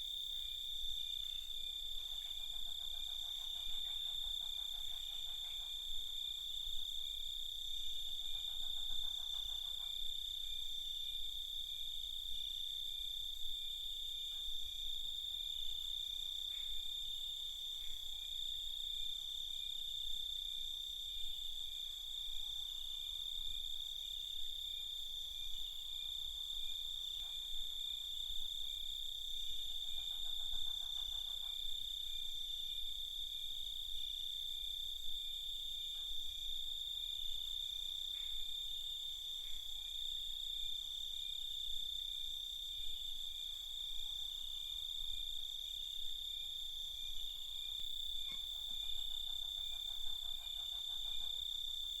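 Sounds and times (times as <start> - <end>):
crickets chirping: 0.0 - 52.0
low rapid insect trill: 0.0 - 52.0.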